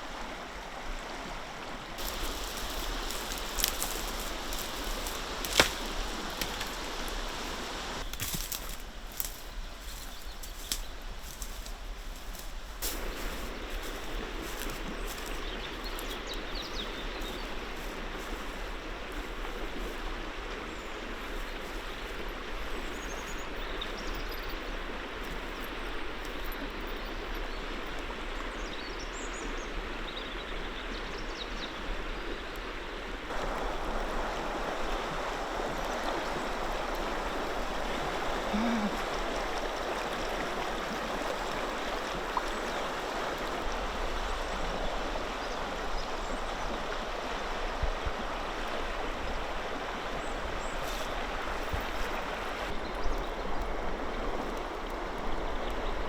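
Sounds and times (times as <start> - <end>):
river water rushing: 0.0 - 28.4, 33.0 - 56.0.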